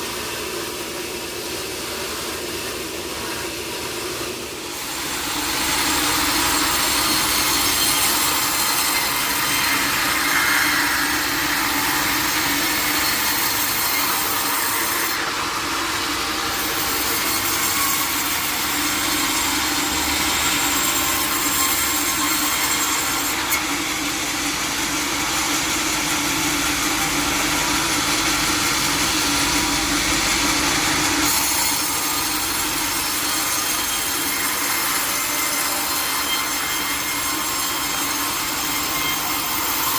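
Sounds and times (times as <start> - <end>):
saw cutting wood: 2.4 - 39.9.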